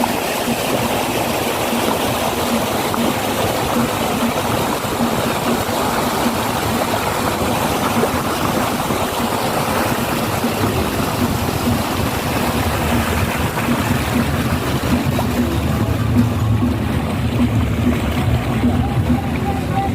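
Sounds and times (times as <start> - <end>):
boat motor humming: 0.0 - 19.9
water rushing along hull: 0.0 - 19.9.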